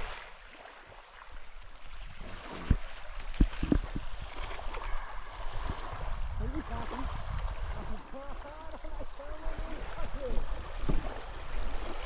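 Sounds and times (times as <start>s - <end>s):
faint water noise: 0.0s - 12.0s.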